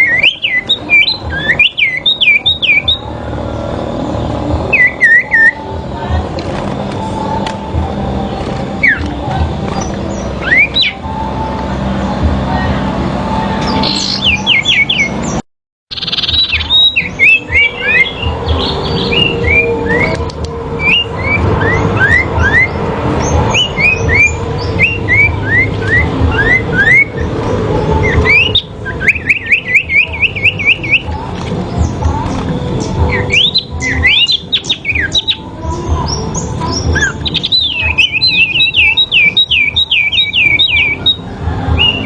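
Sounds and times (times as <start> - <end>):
songbirds whistling: 0.0 - 42.0.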